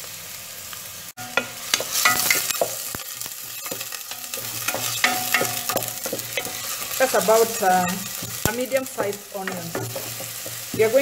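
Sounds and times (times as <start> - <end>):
onions sizzling in hot oil: 0.0 - 11.0
wooden spoon scraping a pot: 1.4 - 11.0.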